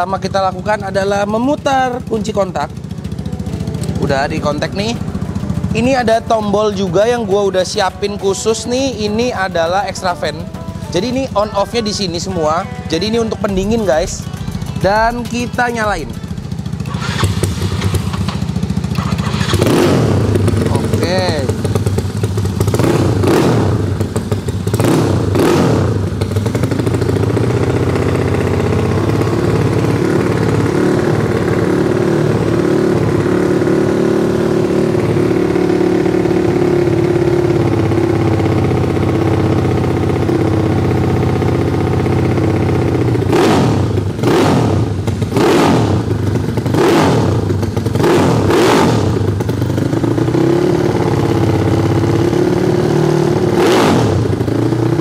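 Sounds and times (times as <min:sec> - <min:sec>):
scooter engine idling: 0:00.0 - 0:55.0.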